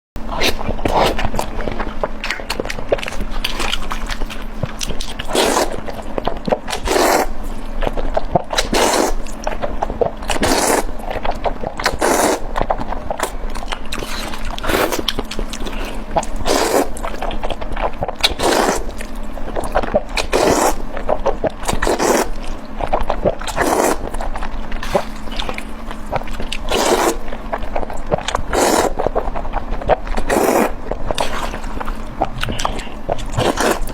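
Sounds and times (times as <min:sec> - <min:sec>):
food being chewed: 0:00.2 - 0:33.9.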